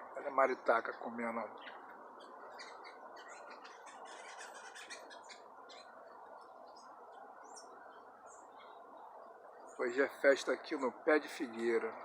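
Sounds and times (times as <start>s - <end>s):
birds chirping: 0.0s - 12.0s
steady low hiss: 0.0s - 12.0s.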